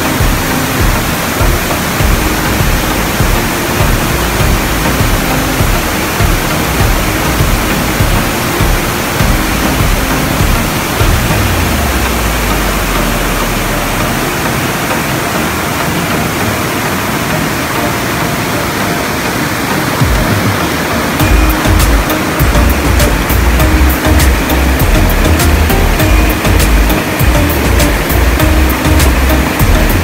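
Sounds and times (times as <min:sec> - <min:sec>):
river rapids rushing: 0:00.0 - 0:30.0.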